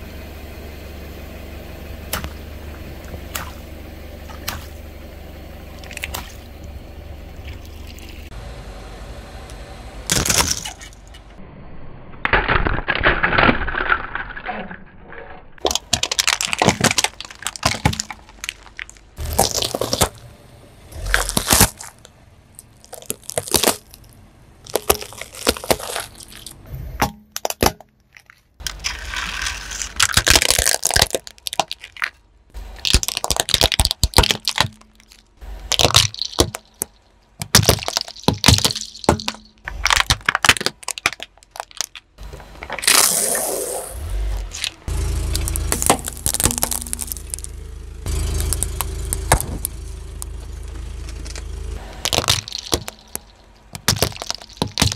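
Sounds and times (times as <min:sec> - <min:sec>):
objects crunching under car tyre: 0:05.6 - 0:08.4, 0:10.0 - 0:11.4, 0:12.2 - 0:54.9.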